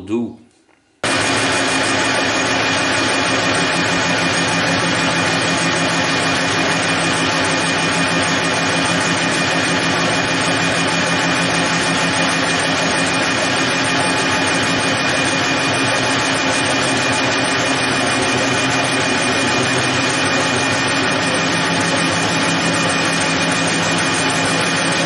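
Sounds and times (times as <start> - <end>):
lathe tool cutting steel: 1.0 - 25.0
metal lathe hum and gear whine: 1.0 - 25.0.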